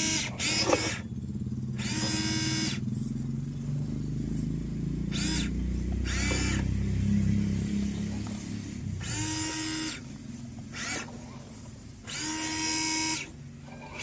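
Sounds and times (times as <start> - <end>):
radio-controlled car drone: 0.0 - 3.2, 3.9 - 14.0.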